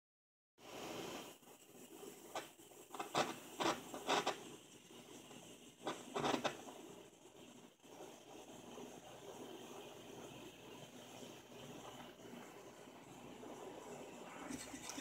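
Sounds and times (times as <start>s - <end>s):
gas torch flame hissing: 0.6s - 15.0s.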